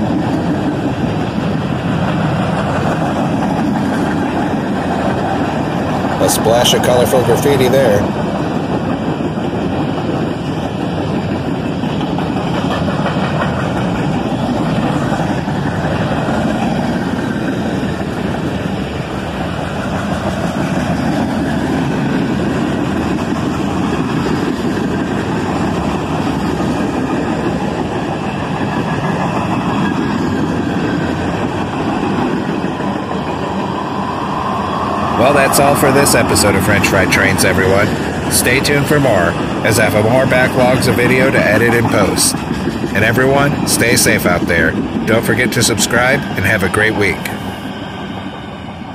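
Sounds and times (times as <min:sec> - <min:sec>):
freight train rolling by: 0:00.0 - 0:48.9.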